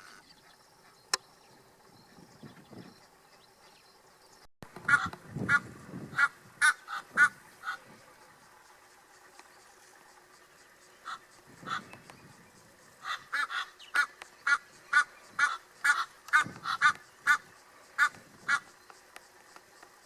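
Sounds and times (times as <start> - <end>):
bird calling: 0.0 - 20.0.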